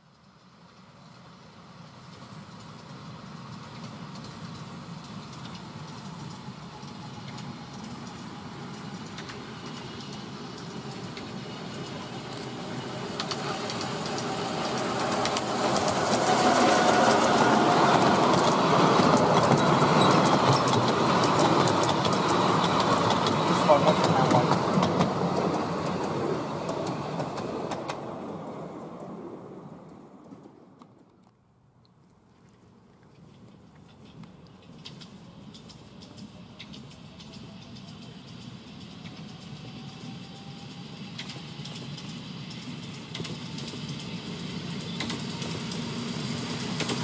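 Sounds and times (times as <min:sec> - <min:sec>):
miniature train passing: 0:00.0 - 0:47.0
wheels clicking over rail joints: 0:00.0 - 0:47.0.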